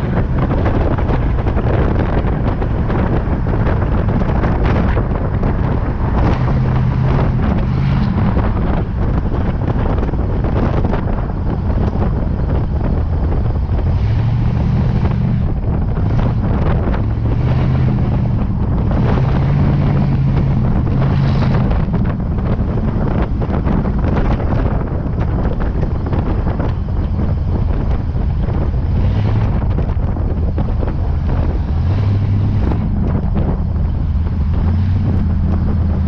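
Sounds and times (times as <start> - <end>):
car engine at road speed: 0.0 - 36.0
wind buffeting microphone: 0.0 - 36.0.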